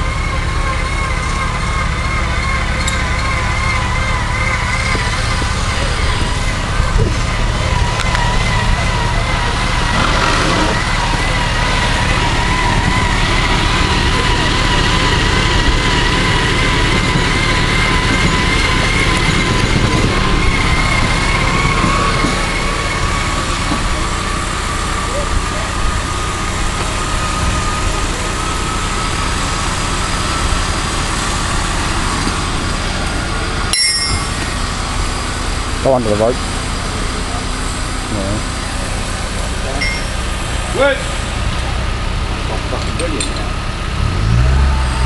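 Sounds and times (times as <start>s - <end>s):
vehicle engine running low: 0.0s - 45.0s
vehicle winch whining: 0.0s - 45.0s.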